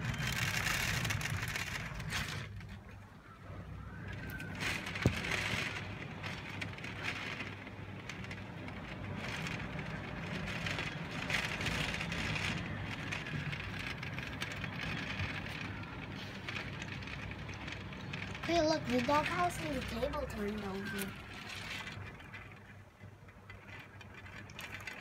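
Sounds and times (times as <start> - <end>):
strong wind gusting with rain: 0.0 - 25.0.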